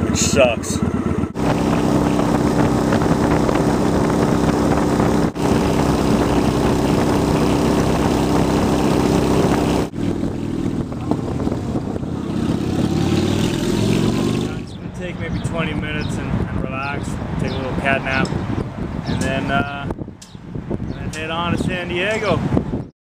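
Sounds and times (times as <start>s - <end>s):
motorcycle engine cruising: 0.0s - 21.0s
wind noise: 0.8s - 22.9s.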